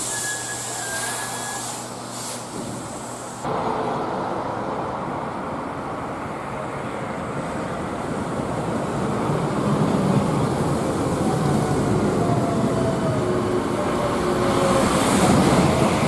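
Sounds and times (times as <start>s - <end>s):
train running past: 0.0s - 16.0s.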